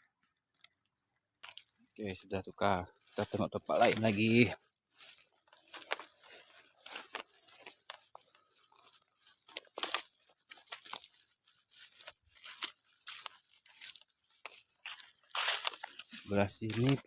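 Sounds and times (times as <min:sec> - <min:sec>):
footsteps crunching through dry leaves: 0:01.4 - 0:17.0.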